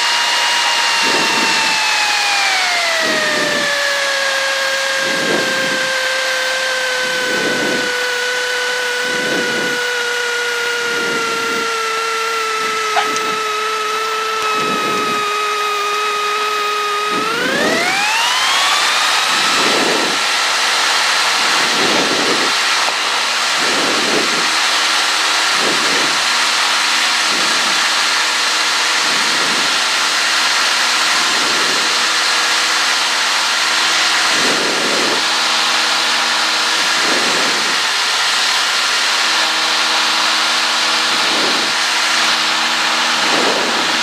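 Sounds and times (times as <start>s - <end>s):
light aircraft engine and propeller: 0.0s - 44.0s.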